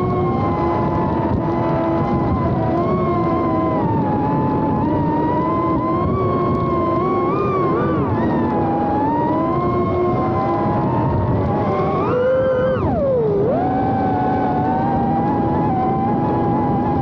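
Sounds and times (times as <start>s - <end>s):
drone motors whining: 0.0s - 17.0s
propeller and wind rush: 0.0s - 17.0s.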